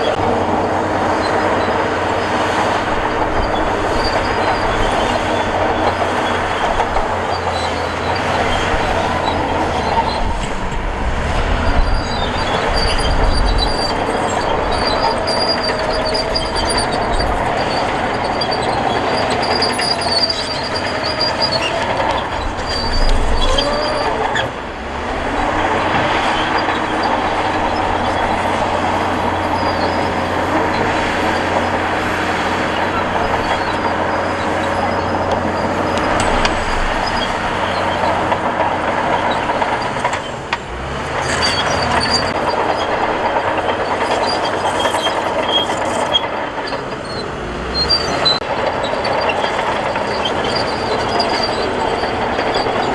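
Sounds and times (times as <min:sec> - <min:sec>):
diesel engine under load: 0:00.0 - 0:52.9
steel tracks squealing and clanking: 0:00.0 - 0:52.9.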